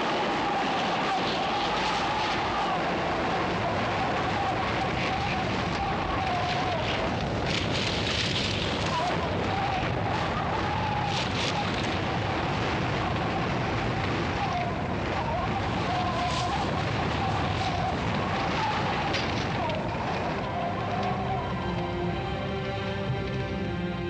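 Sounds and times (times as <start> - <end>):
rush of tumbling snow: 0.0 - 24.0.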